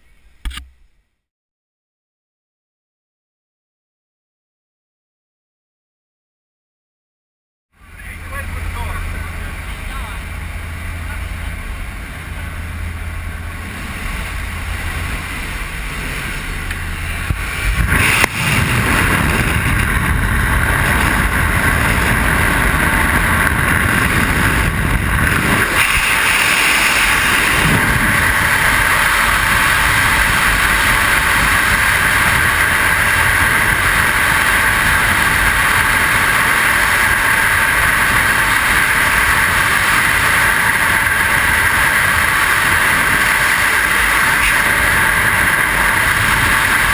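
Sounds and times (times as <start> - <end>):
freefall wind on microphone: 7.8 - 46.9
plane engine and propeller wash: 7.8 - 46.9.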